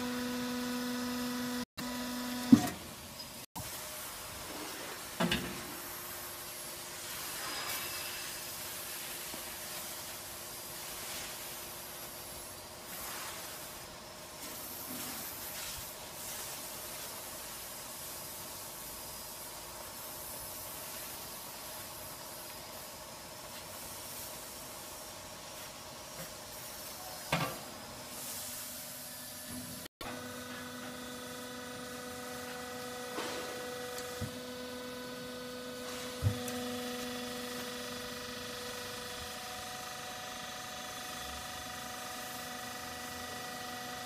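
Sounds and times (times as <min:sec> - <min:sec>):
hydraulic unit hiss and hum: 0:00.0 - 0:44.0.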